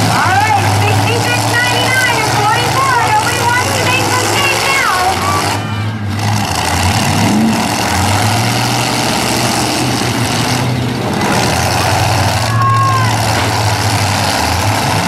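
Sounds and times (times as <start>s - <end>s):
engine revving: 0.0s - 15.0s
truck engines running loud: 0.0s - 15.0s.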